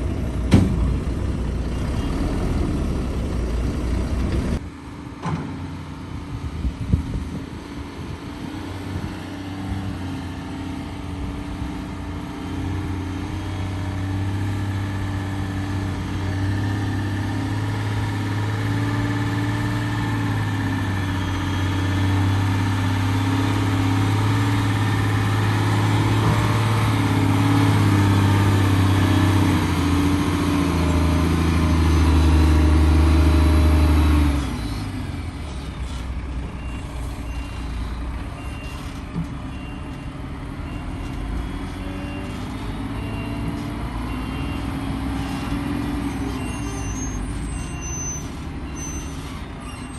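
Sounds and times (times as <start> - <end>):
heavy diesel engine running: 0.0 - 49.5.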